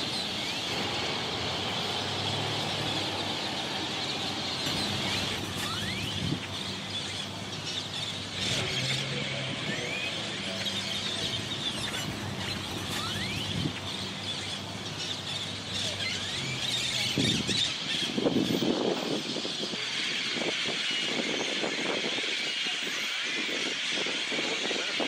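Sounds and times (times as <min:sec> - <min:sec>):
birds squealing and chattering: 0:00.0 - 0:25.0
traffic hum: 0:00.0 - 0:25.0.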